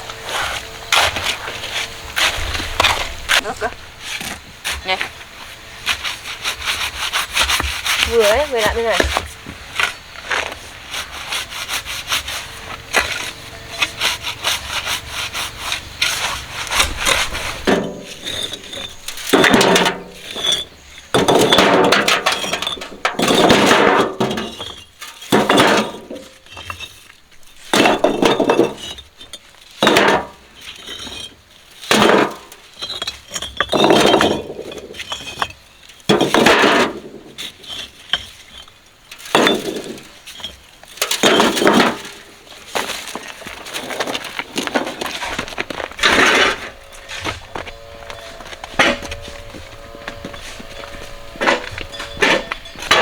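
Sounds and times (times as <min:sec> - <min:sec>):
shovel scraping gravelly concrete: 0:00.1 - 0:53.0.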